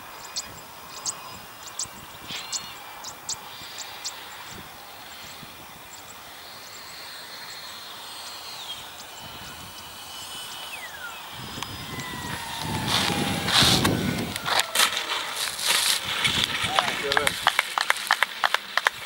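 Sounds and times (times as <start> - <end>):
model jet fans whining: 0.0 - 18.2.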